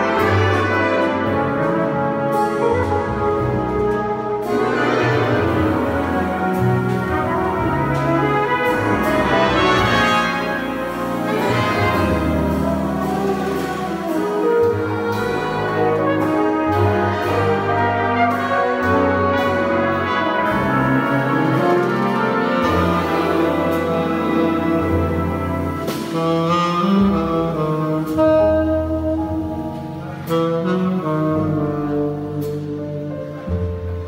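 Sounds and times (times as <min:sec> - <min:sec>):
brass section held chords: 0:00.0 - 0:29.4
jazz big band playing: 0:00.0 - 0:34.0
low bass part: 0:00.0 - 0:34.0.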